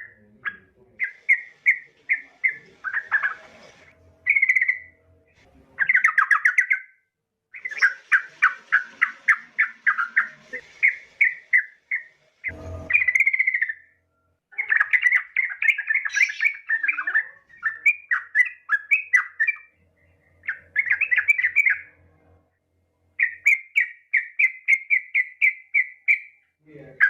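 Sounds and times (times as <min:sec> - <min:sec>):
bird chirping: 0:00.0 - 0:22.4, 0:23.1 - 0:27.0.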